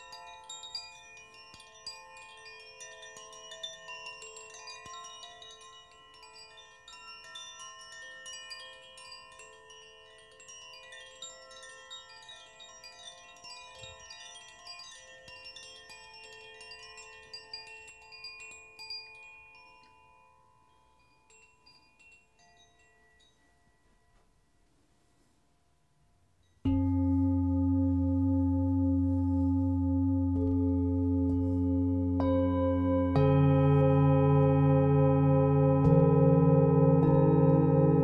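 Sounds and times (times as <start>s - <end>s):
metal wind chimes tinkling: 0.0s - 25.6s, 26.2s - 38.0s.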